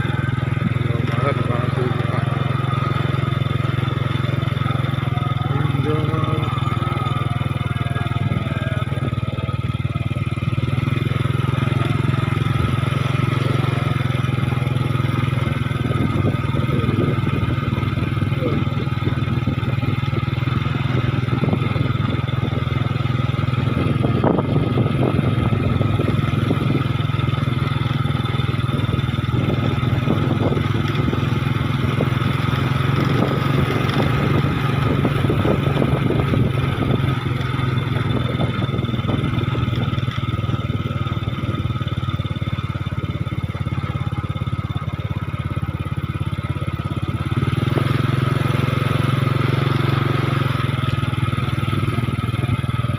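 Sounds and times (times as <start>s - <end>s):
motorcycle engine running: 0.0s - 52.9s
road noise: 0.0s - 52.9s.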